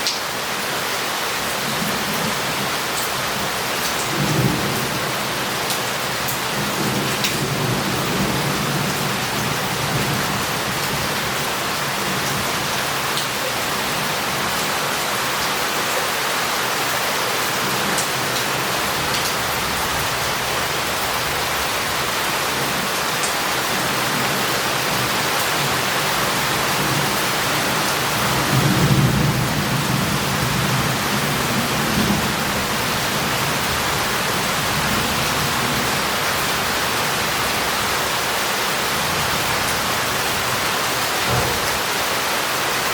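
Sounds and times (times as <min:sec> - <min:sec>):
heavy rain on street: 0:00.0 - 0:42.9.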